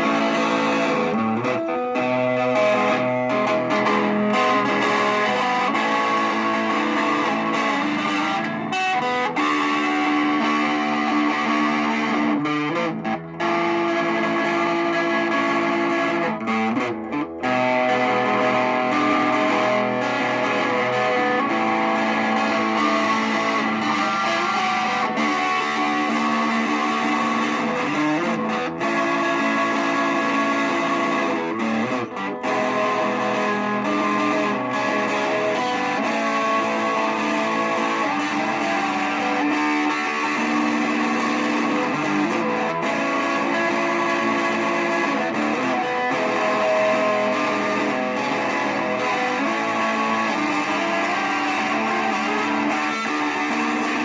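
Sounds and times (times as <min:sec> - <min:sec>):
guitar music: 0:00.0 - 0:54.0.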